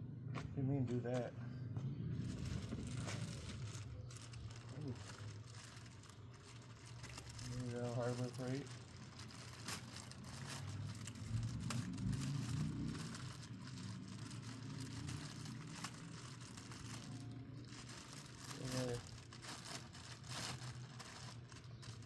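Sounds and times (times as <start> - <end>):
plastic packaging crinkling: 2.2 - 22.0.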